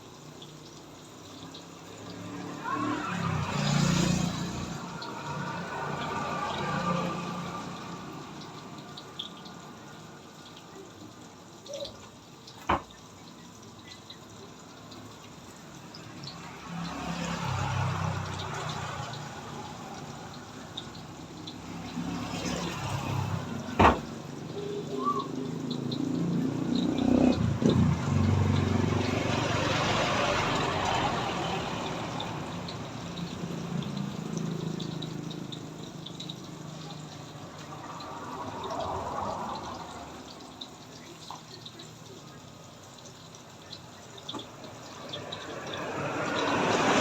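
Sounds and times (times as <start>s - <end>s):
water running and splashing: 0.0s - 47.0s.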